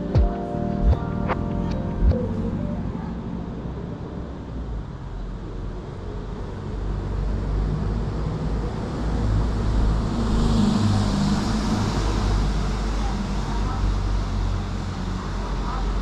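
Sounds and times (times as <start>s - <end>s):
engine hum: 0.0s - 16.0s
rumble of passing traffic: 0.0s - 16.0s.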